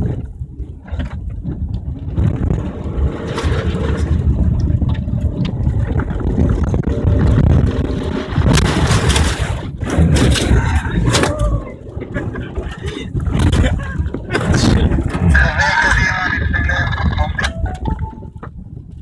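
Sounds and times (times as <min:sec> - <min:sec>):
tyres on muddy dirt track: 0:00.0 - 0:17.7.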